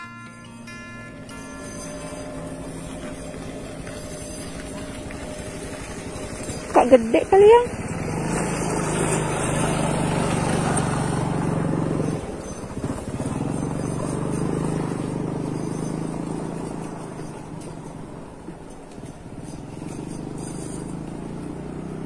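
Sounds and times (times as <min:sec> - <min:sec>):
small engine humming: 0:00.0 - 0:22.0.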